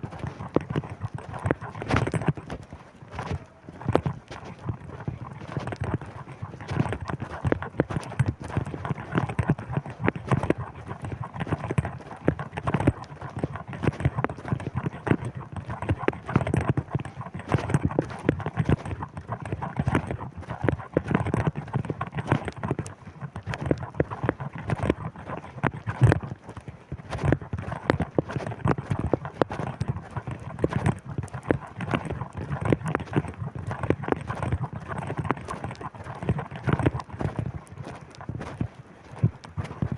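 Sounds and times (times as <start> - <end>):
crunching footsteps: 0.0 - 39.9.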